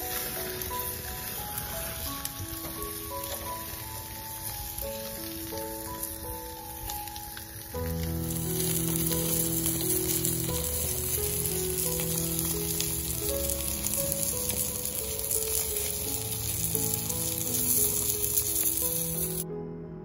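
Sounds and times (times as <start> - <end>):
fish sizzling on a grill: 0.0 - 19.4
slow background music: 0.0 - 20.0.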